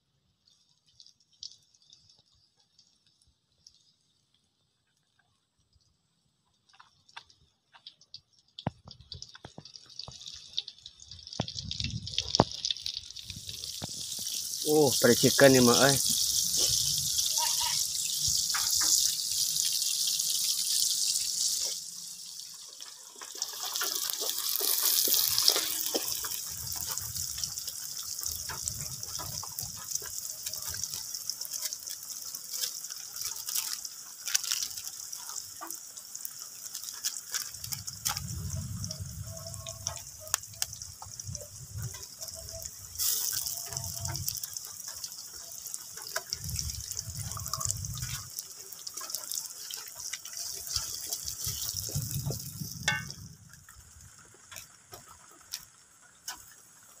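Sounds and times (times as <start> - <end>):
hot oil sizzling in a wok: 0.0 - 57.0.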